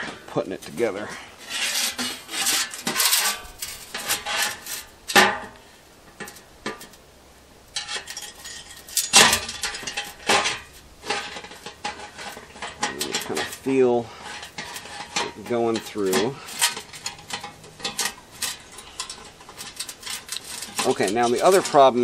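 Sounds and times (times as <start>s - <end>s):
sheet metal scraping and clinking: 0.0s - 7.0s, 7.7s - 22.0s.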